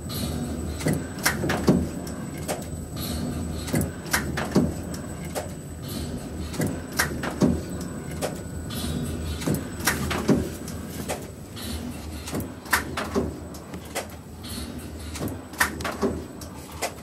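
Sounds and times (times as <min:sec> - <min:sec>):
machine humming: 0:00.0 - 0:17.0
machine clacks and knocks: 0:00.1 - 0:17.0.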